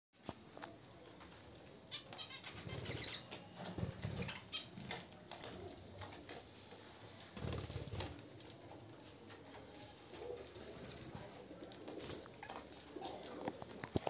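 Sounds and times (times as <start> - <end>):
birds wing flapping in cage: 2.2 - 14.0.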